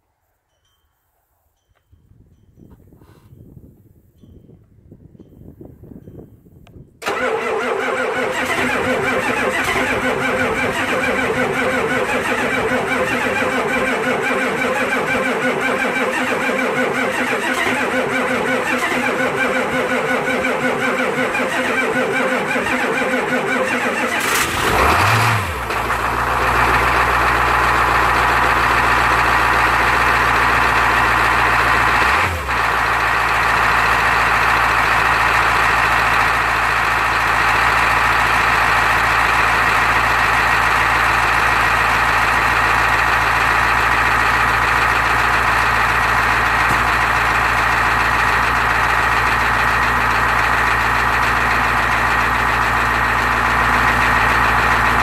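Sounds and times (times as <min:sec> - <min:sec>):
truck engine idling: 0:07.0 - 0:55.0.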